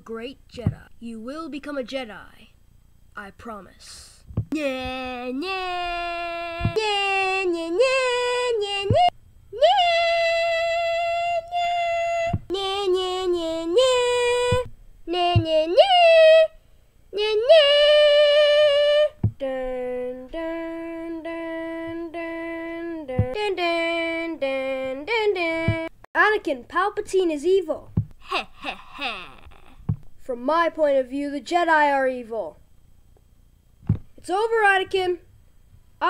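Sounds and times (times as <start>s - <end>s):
high voice singing wordless melody: 0.0s - 2.4s, 3.2s - 32.6s.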